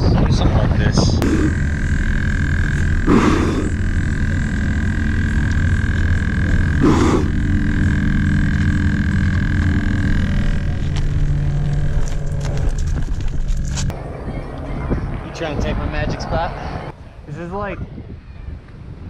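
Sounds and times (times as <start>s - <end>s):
aerator pump buzzing: 0.8s - 17.0s.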